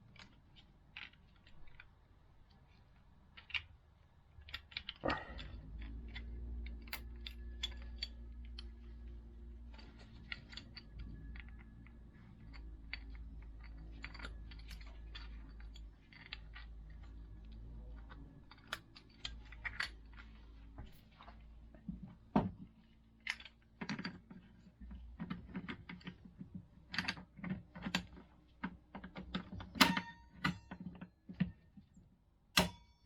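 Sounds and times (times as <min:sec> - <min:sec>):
steady low hum: 0:00.0 - 0:26.8
small parts clicking and tapping: 0:00.0 - 0:32.0.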